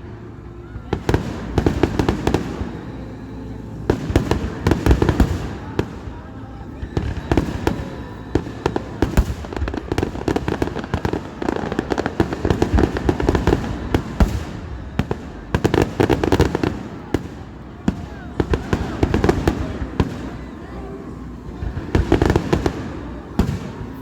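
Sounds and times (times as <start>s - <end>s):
fireworks bangs and bursts: 0.0s - 24.0s.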